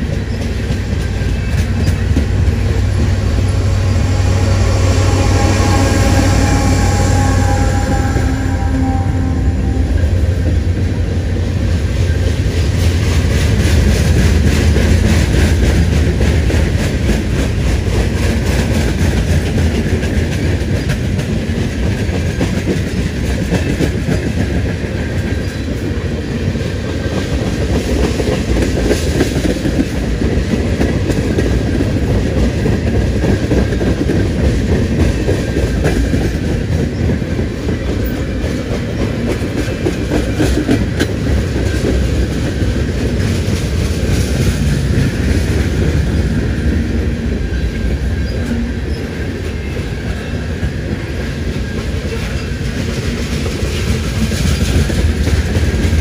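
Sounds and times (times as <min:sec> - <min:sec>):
wheel-on-rail rumble: 0:00.0 - 0:56.0.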